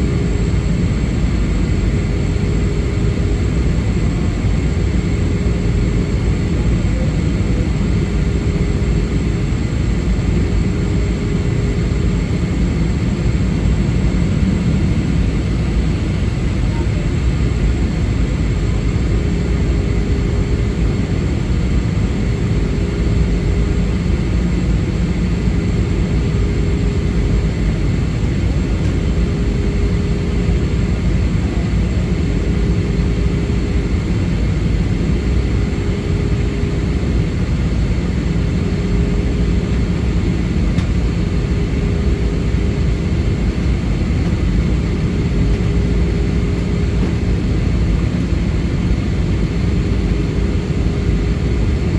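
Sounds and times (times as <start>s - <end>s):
airliner cabin engine roar: 0.0s - 51.9s.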